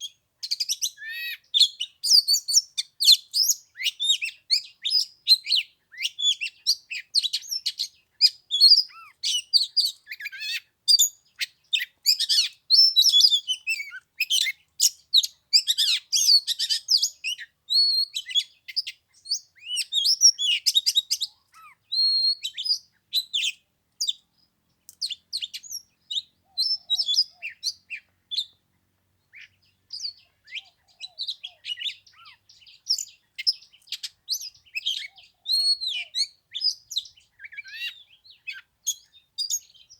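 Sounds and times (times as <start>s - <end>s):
bird singing whistles and chirps: 0.0s - 28.6s, 29.3s - 39.9s.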